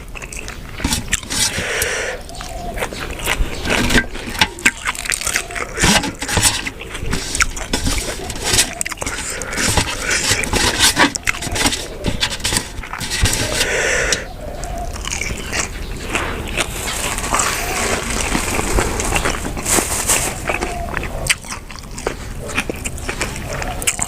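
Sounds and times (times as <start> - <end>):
loud close chewing: 0.0 - 24.0.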